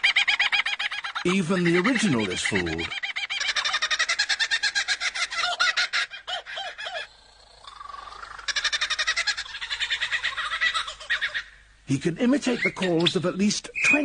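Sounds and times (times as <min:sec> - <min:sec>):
lyrebird singing: 0:00.0 - 0:14.0.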